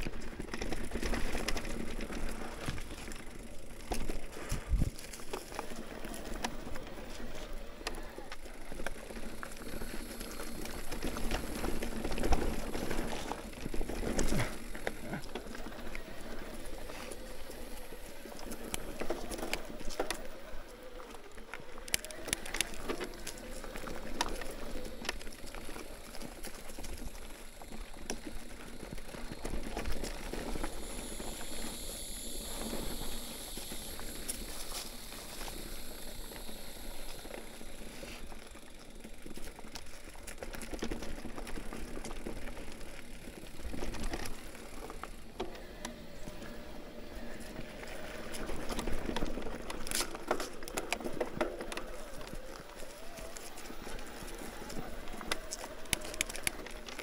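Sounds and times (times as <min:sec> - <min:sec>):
bike knocking and rattling: 0:00.0 - 0:57.0
bike tyres on dirt and rocks: 0:00.0 - 0:57.0.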